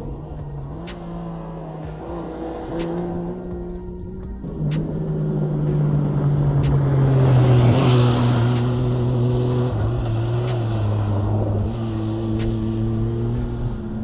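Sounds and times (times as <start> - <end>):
background music with bass notes: 0.0 - 14.0
buggy engine passing: 0.0 - 14.0.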